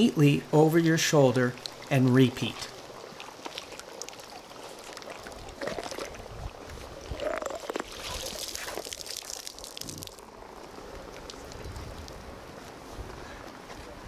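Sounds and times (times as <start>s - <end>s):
water gurgling: 0.0s - 12.6s.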